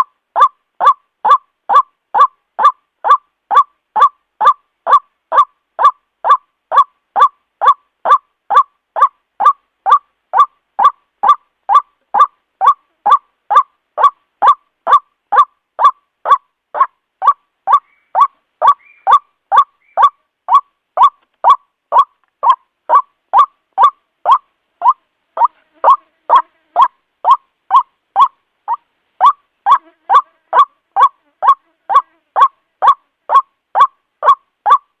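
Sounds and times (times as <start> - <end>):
waterhen calling: 0.0 - 35.0.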